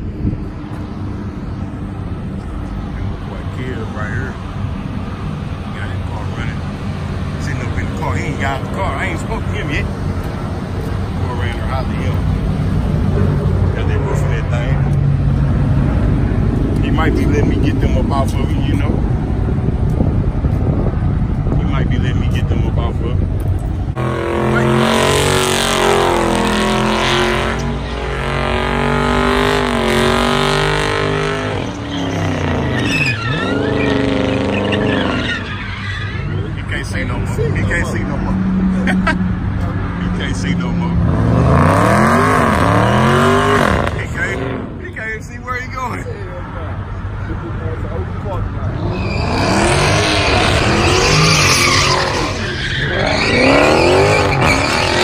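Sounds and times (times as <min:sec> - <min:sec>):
car engine at high revs: 0:00.0 - 0:45.2, 0:47.2 - 0:55.0
tires screeching: 0:00.0 - 0:55.0.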